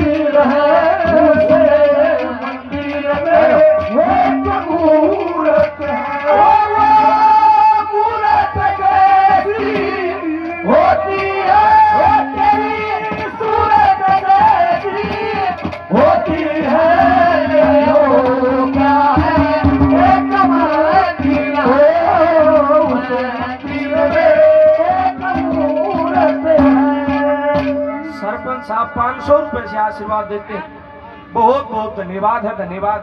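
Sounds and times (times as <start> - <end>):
hand drum beats: 0.0 - 30.4
wavering vocal melody over drone: 0.0 - 31.9.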